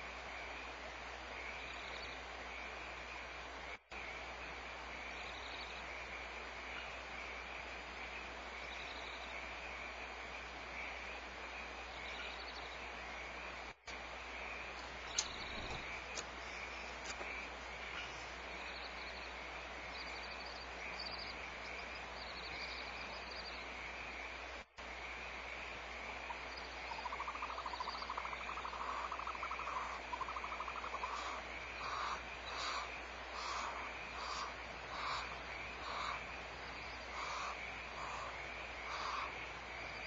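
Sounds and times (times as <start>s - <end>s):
frogs croaking: 0.0s - 40.0s
steady background hiss: 0.0s - 40.0s.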